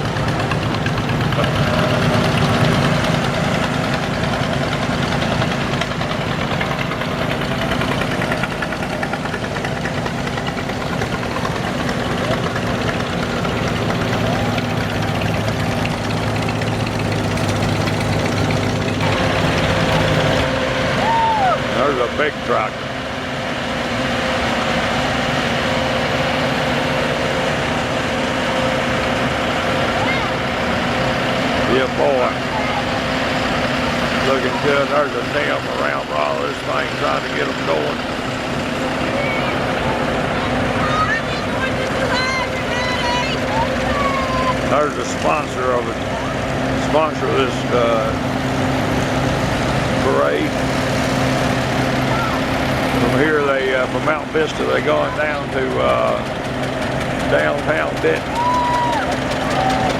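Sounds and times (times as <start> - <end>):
tractor engines chugging: 0.0 - 59.9.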